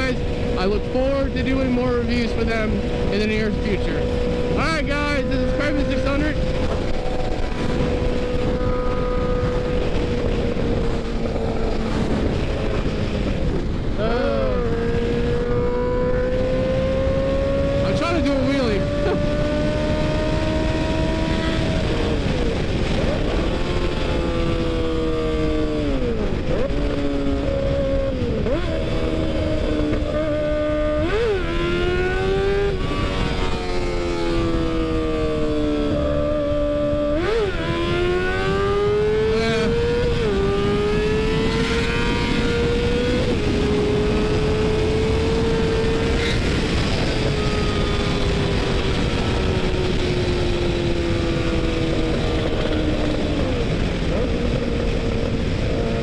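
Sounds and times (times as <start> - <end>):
motorcycle engine at speed: 0.0 - 56.0
wind rush: 0.0 - 56.0.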